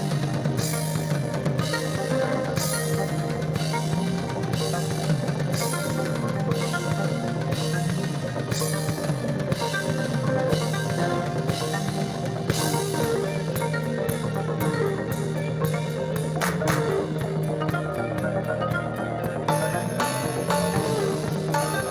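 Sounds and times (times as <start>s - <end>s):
bass and guitar drone: 0.0s - 21.9s
drum kit with cymbal washes: 0.0s - 21.9s
psychedelic rock band playing: 0.0s - 21.9s.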